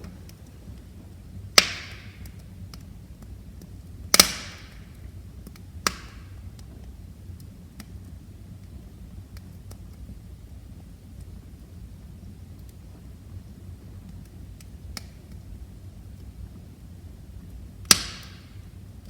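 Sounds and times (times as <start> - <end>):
wood fire snaps: 0.0 - 11.4, 12.0 - 19.0
faint ticks of fire: 0.0 - 19.0
low steady fire rumble: 0.0 - 19.0.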